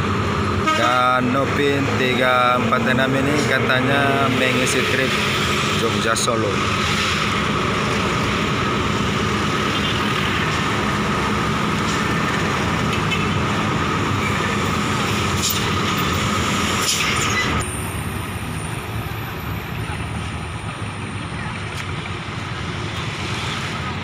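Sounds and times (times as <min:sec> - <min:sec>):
diesel engines idling: 0:00.0 - 0:24.0.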